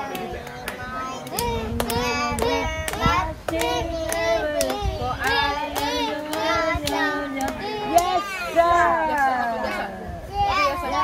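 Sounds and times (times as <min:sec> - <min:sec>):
child singing: 0:00.0 - 0:08.6, 0:10.3 - 0:11.0.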